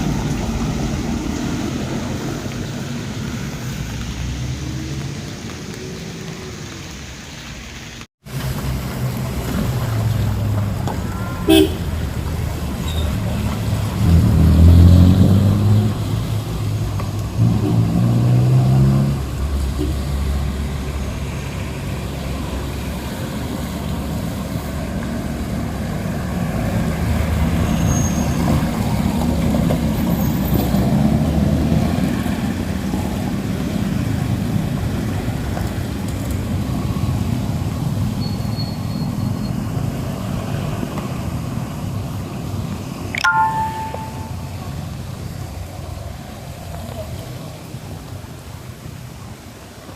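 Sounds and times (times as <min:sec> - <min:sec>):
steady traffic rumble: 0:00.0 - 0:49.9
vehicles passing on wet road: 0:00.0 - 0:49.9.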